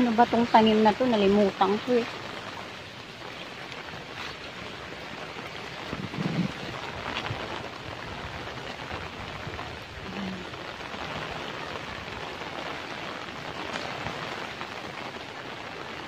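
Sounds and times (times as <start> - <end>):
wind and rain rushing: 0.0 - 16.0.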